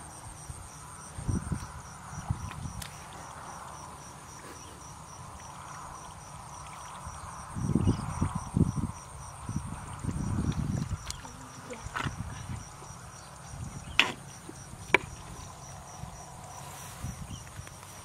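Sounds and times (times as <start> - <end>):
insects chirping: 0.0 - 18.0
squelching in muddy water: 1.4 - 18.0.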